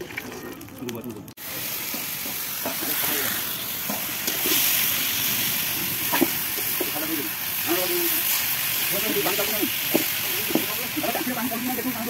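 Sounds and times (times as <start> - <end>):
shrimp sizzling in pan: 1.4 - 12.0.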